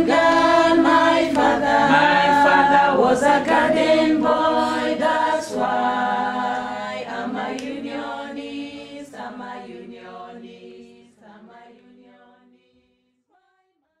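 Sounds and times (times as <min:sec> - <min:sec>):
a cappella choir singing: 0:00.0 - 0:13.8.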